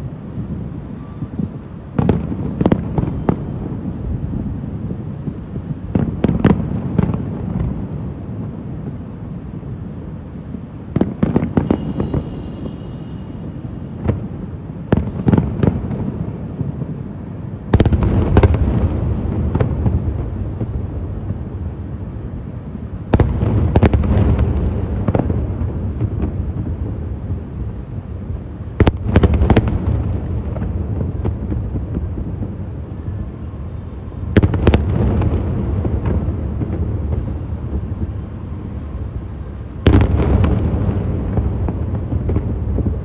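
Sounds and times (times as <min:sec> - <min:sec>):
fireworks cracking and booming: 0:00.0 - 0:43.0.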